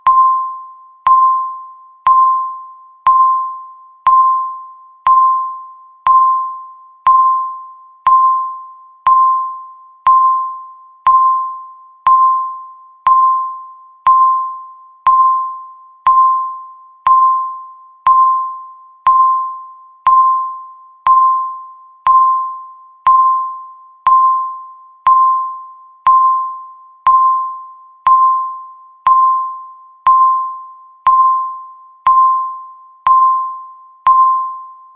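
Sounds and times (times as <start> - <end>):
electronic timer ping: 0.0 - 34.9.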